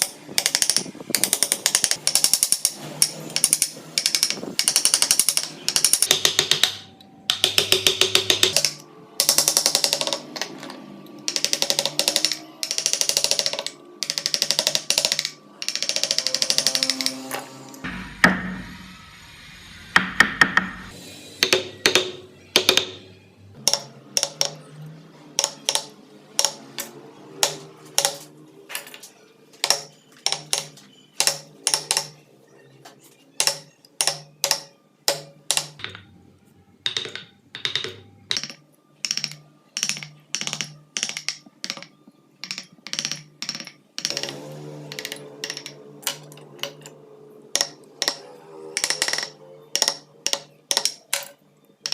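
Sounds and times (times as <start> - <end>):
mallet tapping chisel: 0.0 - 17.3, 20.0 - 24.6, 25.4 - 28.3, 29.6 - 32.2, 33.4 - 36.0, 36.9 - 46.9, 47.6 - 51.9.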